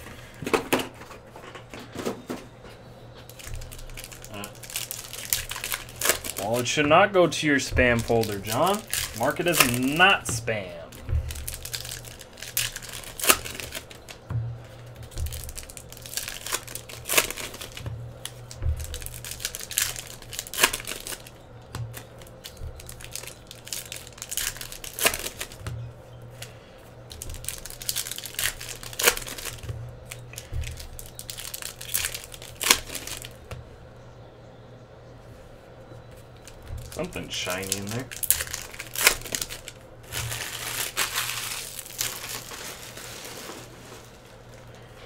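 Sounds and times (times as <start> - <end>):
foil wrappers crinkling and tearing: 3.2 - 33.6, 36.2 - 45.0.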